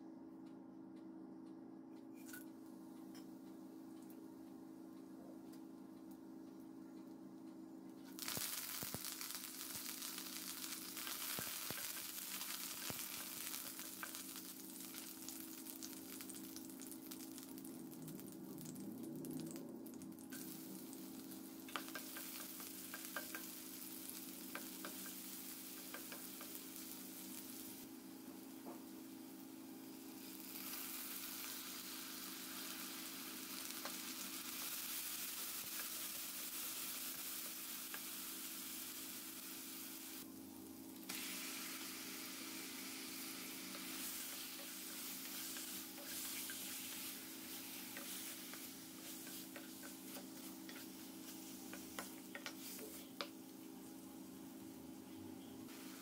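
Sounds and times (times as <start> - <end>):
leaves sizzling in hot oil: 8.1 - 54.7, 55.7 - 56.0
onion frying in oil: 8.1 - 54.9, 55.7 - 56.0.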